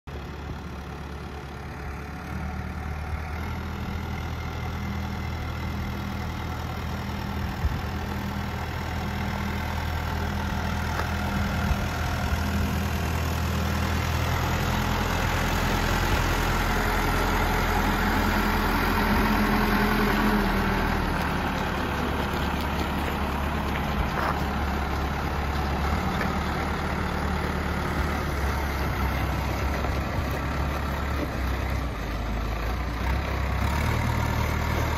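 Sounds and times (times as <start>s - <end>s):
backhoe diesel engine running: 0.1s - 34.9s.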